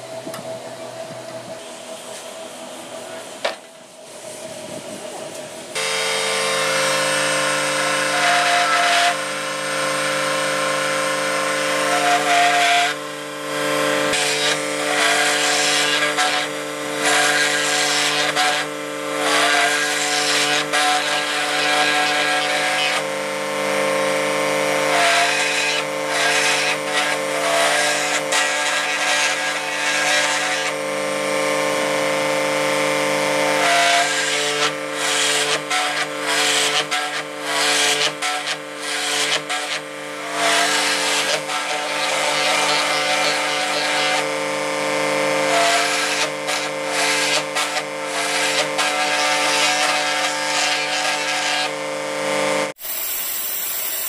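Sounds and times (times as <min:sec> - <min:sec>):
drill press motor running: 0:00.0 - 0:54.0
router bit rasping through wood: 0:04.6 - 0:54.0.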